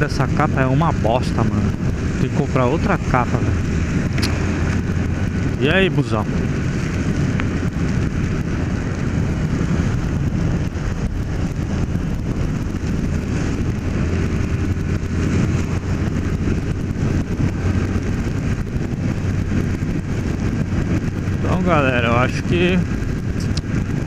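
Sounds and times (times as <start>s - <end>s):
motorcycle engine running: 0.0s - 24.0s
tyre noise on wet road: 0.0s - 24.0s
wind noise on microphone: 0.0s - 24.0s.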